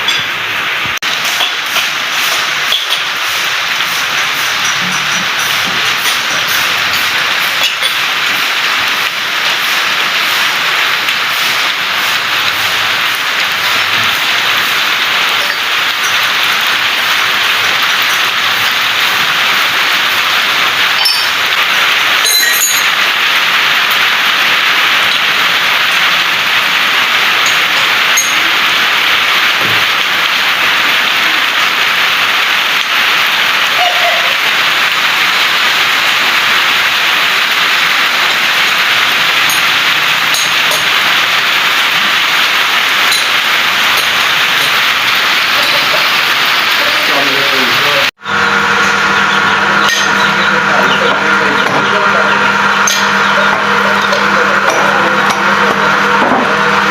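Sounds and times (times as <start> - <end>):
steady rain hiss: 0.4 - 49.3.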